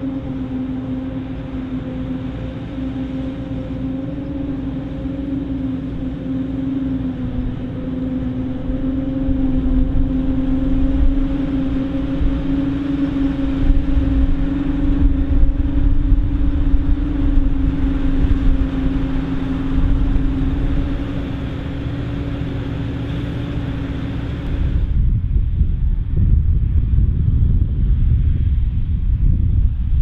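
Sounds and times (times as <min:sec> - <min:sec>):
forage harvester running under load: 0:00.0 - 0:25.2
constant machinery hum: 0:00.0 - 0:30.0.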